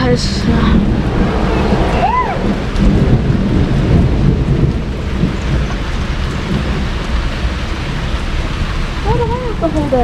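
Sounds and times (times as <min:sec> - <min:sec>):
heavy rain falling: 0:00.0 - 0:10.0
low rumble of thunder: 0:00.0 - 0:10.0.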